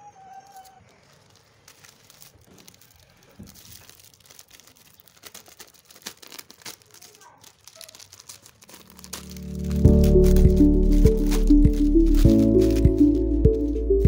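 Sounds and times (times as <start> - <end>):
plastic snack packet crinkling: 0.4 - 14.0.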